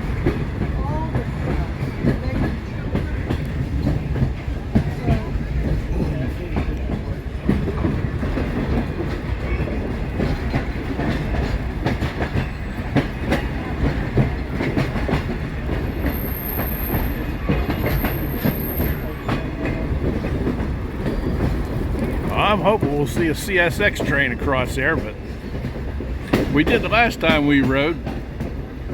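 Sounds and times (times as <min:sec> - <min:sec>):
train rumbling on track: 0:00.0 - 0:28.9
wheels clicking over rail joints: 0:00.0 - 0:28.9.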